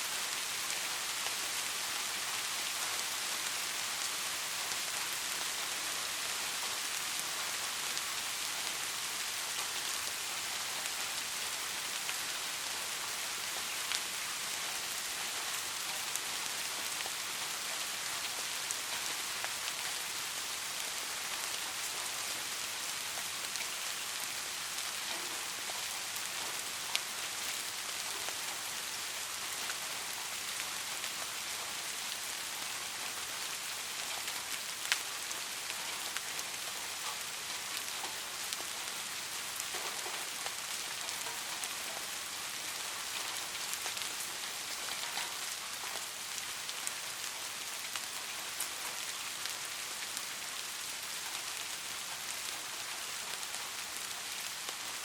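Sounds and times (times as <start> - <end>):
soft rain falling: 0.0 - 55.0.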